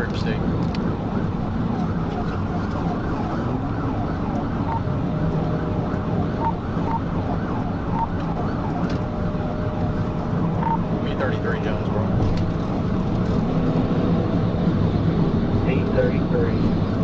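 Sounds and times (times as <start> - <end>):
car road and wind noise: 0.0 - 17.0
police siren wailing: 0.8 - 17.0.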